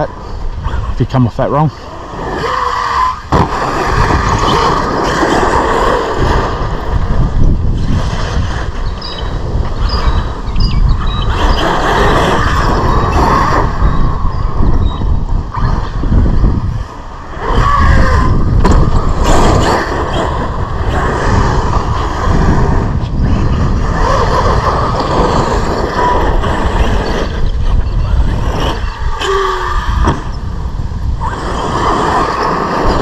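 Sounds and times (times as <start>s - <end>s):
wind noise on microphone: 0.0s - 33.0s
rc car motor whining: 1.8s - 7.1s, 7.7s - 16.3s, 17.2s - 30.5s, 31.2s - 33.0s.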